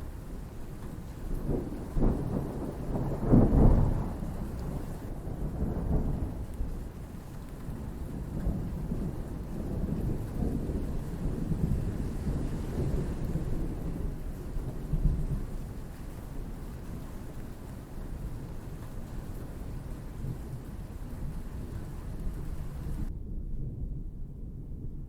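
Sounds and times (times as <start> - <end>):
steady rain: 0.0 - 23.1
rolling thunder: 0.1 - 25.0.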